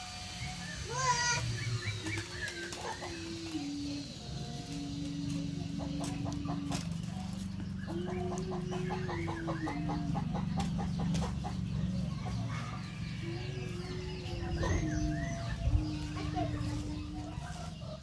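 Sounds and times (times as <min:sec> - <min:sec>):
chickens clucking: 0:00.0 - 0:18.0
low drone: 0:00.0 - 0:18.0.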